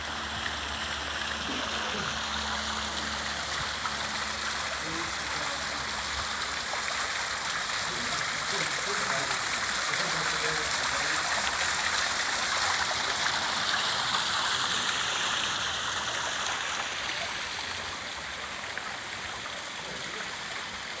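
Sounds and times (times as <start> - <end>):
waterfall pouring into a pond: 0.0 - 21.0.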